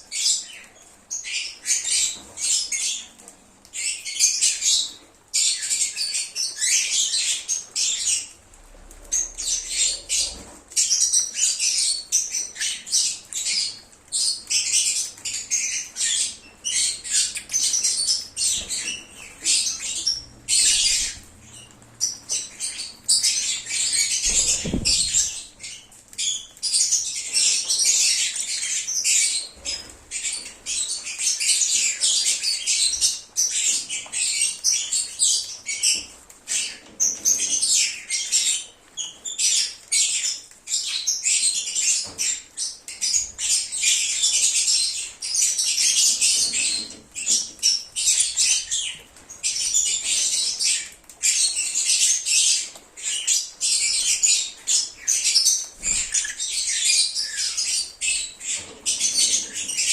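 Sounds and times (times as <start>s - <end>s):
lovebirds chirping and twittering: 0.0s - 59.9s.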